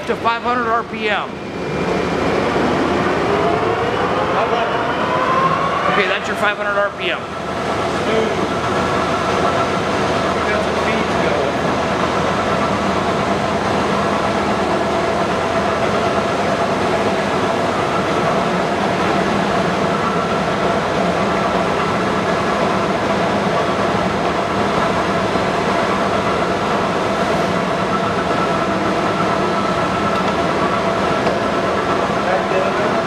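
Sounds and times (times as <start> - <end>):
lathe mechanical hum: 0.0 - 33.0.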